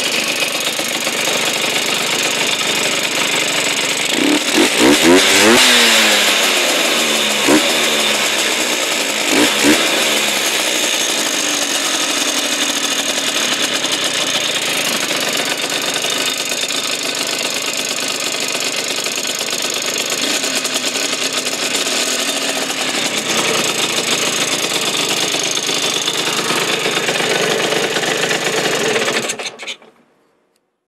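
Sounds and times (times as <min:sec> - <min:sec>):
scooter engine revving: 0:00.0 - 0:30.0.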